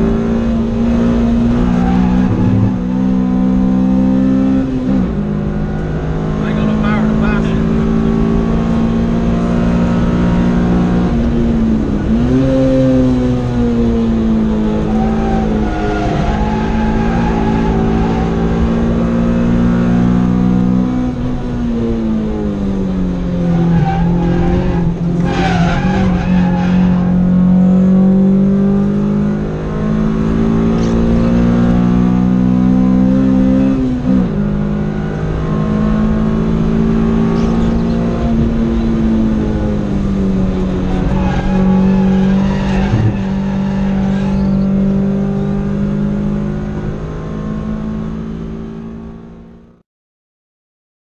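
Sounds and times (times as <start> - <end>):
car engine at high revs: 0.0 - 49.8.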